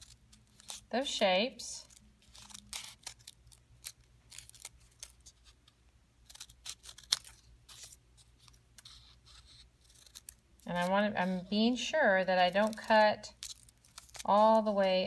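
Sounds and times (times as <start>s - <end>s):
scissors snipping paper: 0.0s - 1.2s, 1.8s - 5.6s, 6.2s - 15.0s.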